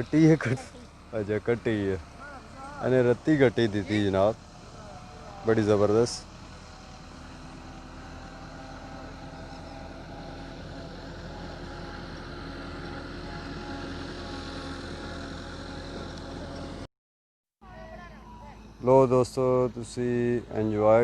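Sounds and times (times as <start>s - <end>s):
engine running: 0.0s - 16.9s, 17.6s - 21.0s.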